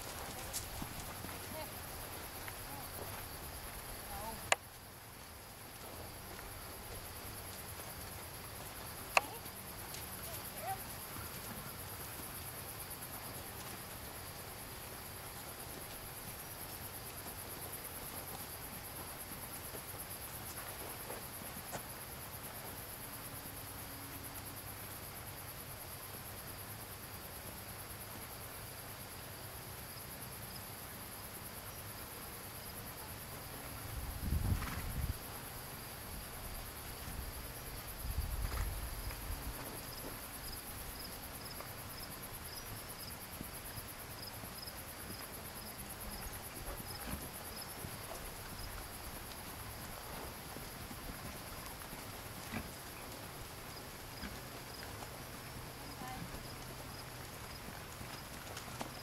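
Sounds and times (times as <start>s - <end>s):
crickets trilling: 0.0s - 59.0s
low pulsing insect call: 0.0s - 59.0s.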